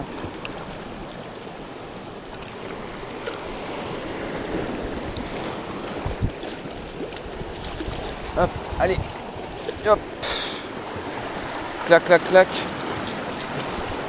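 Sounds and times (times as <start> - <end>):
sea waves washing on rocks: 0.0 - 14.0.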